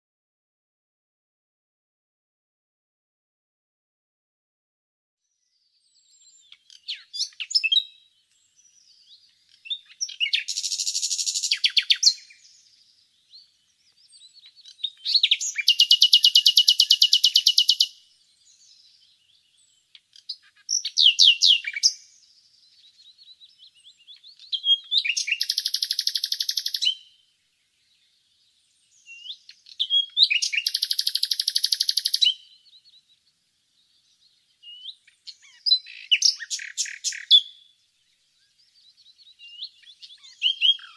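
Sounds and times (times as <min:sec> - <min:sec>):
nightingale singing: 0:05.3 - 0:40.9.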